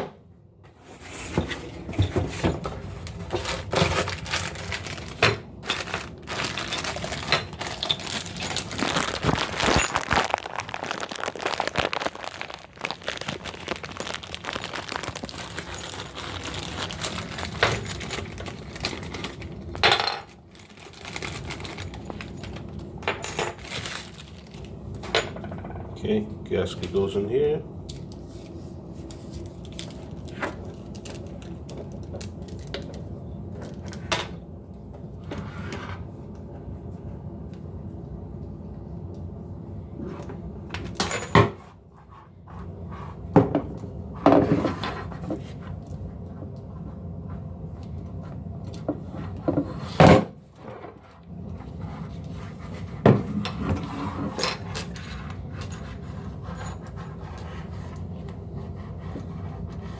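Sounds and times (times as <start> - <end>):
steady low hum: 0.7 - 59.9.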